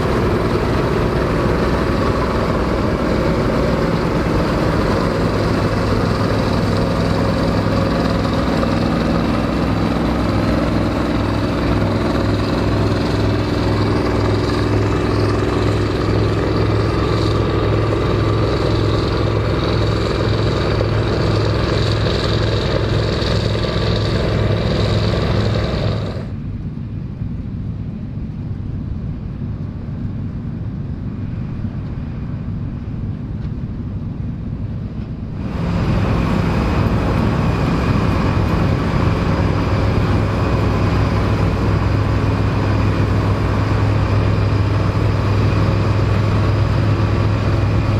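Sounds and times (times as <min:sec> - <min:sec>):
threshing machinery rattling: 0:00.0 - 0:26.3, 0:35.4 - 0:47.9
combine harvester engine drone: 0:00.0 - 0:47.9.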